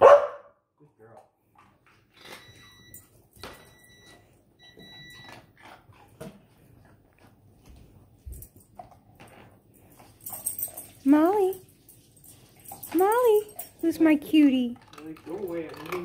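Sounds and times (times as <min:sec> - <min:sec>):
dog licking ice cube on tile: 0:01.4 - 0:16.0.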